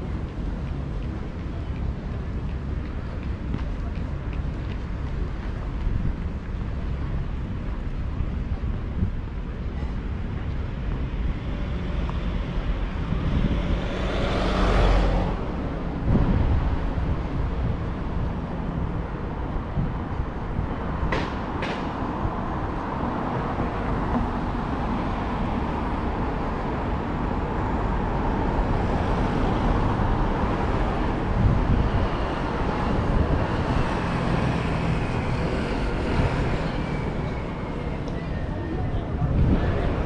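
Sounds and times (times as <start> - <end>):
passing cars and vans: 0.0 - 40.0.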